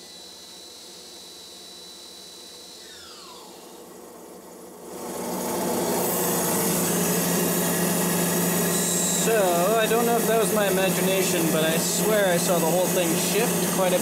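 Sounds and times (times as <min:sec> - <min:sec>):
endmill cutting metal: 0:00.0 - 0:14.0
mill machine whining: 0:00.0 - 0:14.0.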